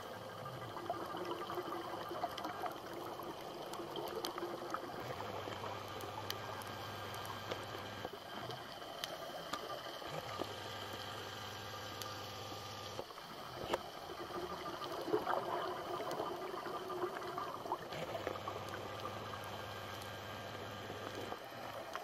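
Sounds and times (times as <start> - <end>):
faint clicks underwater: 2.0 - 11.1, 12.9 - 22.0.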